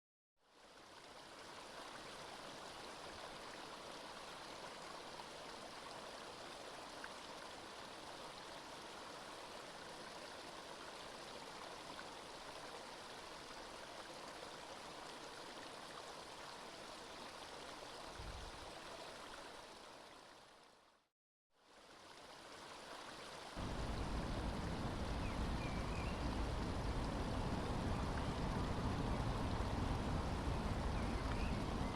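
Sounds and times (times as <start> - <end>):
stream water running: 0.4 - 31.9.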